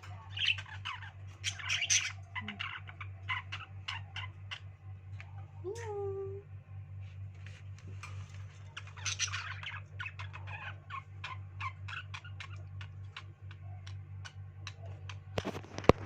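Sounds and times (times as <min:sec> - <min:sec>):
birds chirping: 0:00.0 - 0:06.4, 0:07.9 - 0:16.0
steady low hum: 0:00.0 - 0:16.0.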